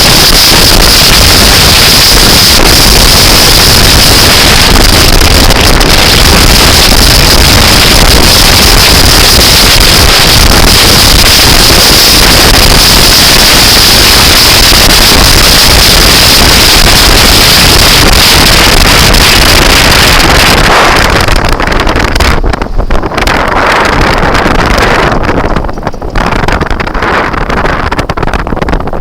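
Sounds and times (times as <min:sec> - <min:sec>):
low rumble: 0:00.0 - 0:29.0
wind buffeting microphone: 0:00.0 - 0:29.0.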